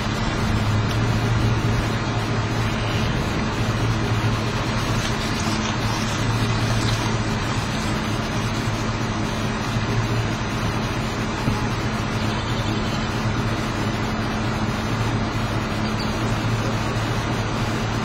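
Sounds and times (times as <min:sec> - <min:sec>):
constant rushing noise: 0:00.0 - 0:18.0
low engine hum: 0:00.0 - 0:18.0.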